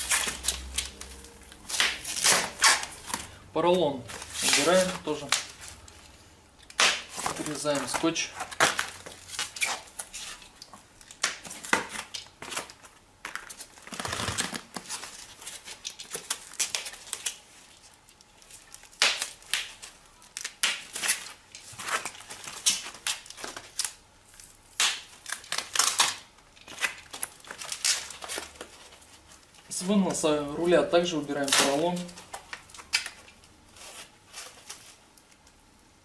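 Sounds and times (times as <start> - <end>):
packaging crinkling and tearing: 0.0 - 35.6.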